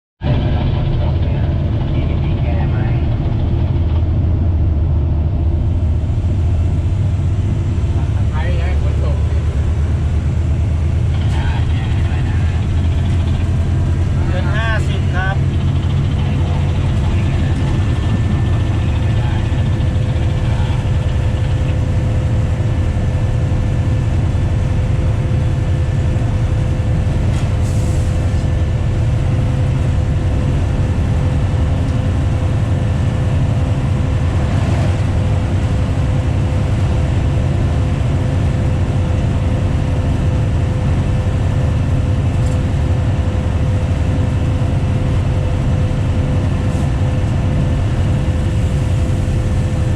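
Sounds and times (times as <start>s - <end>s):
train engine and wheels rumbling: 0.2s - 49.9s.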